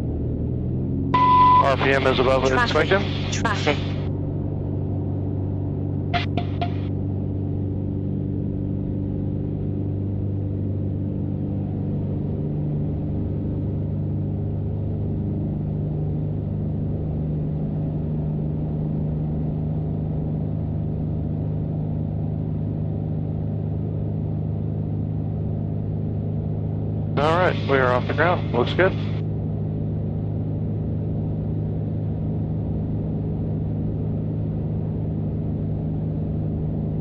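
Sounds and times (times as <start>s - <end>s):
aircraft engine and propeller: 0.0s - 37.0s.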